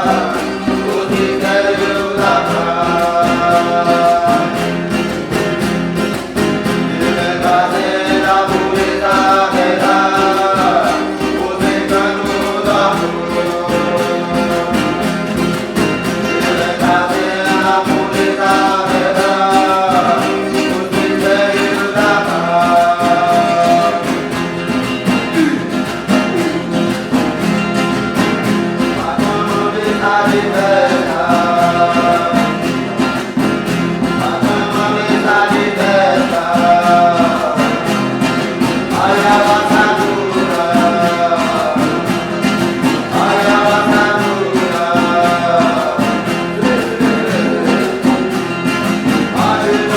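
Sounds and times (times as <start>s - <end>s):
chant sung in phrases: 0.0s - 49.9s
plucked acoustic guitar: 0.0s - 49.9s.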